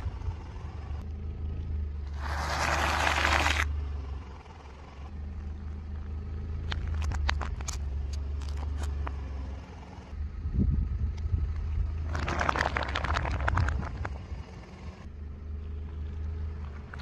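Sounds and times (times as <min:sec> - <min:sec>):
car low rumble: 0:00.0 - 0:17.0.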